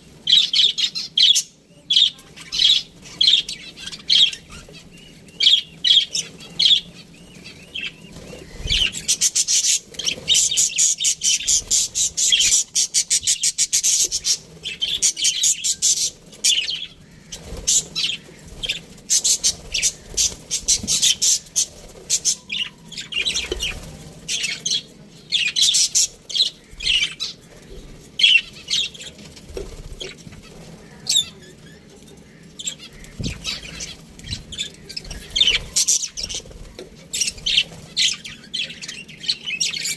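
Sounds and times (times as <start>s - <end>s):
budgerigars chirping: 2.4s - 29.1s, 30.0s - 36.5s.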